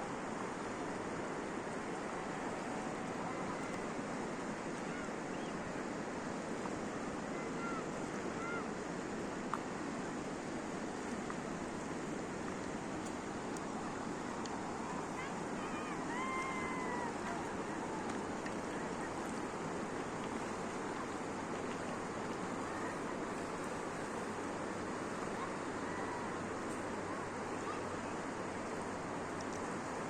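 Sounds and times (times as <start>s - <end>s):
fast-flowing river rushing: 0.0s - 30.0s.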